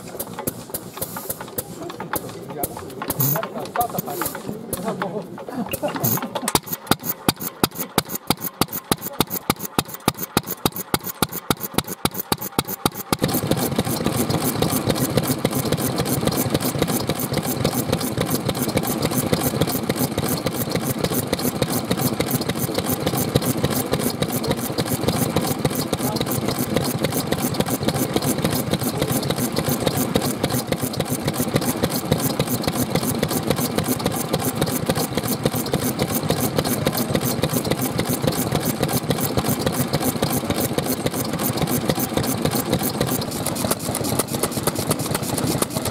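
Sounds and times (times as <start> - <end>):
stationary engine slow firing beat: 0.0 - 3.9, 6.0 - 45.9
fast chatter of engine strokes: 0.0 - 45.9.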